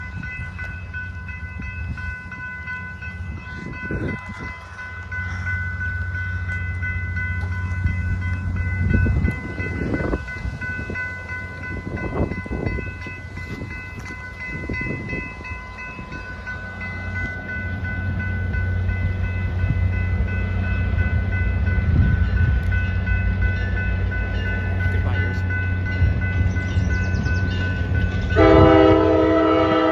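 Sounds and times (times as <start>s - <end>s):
crossing bell ringing: 0.0s - 29.9s
diesel train engine rumble: 0.0s - 29.9s
train clanking: 0.0s - 29.9s.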